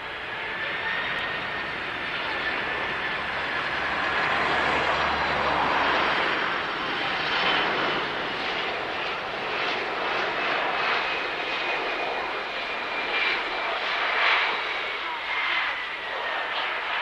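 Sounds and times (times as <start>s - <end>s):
jet airliner landing: 0.0s - 17.0s.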